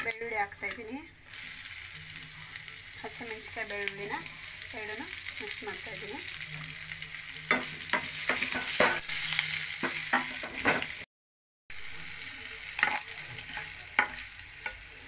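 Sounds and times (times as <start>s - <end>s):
hot oil sizzling in a frying pan: 0.0s - 11.1s, 11.7s - 15.0s.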